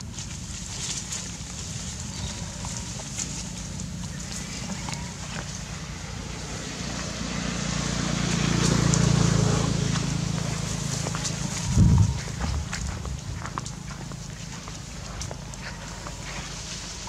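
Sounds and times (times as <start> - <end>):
passing vehicle engine hum: 0.0 - 17.0.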